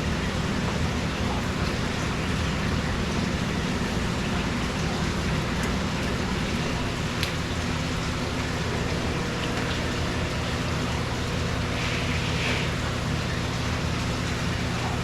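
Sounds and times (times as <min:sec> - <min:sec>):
pump humming: 0:00.0 - 0:15.0
running water rushing: 0:00.0 - 0:15.0.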